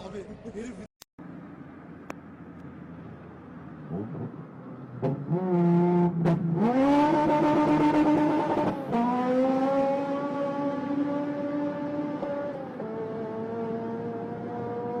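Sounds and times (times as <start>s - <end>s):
car engine at high revs: 1.3s - 15.0s.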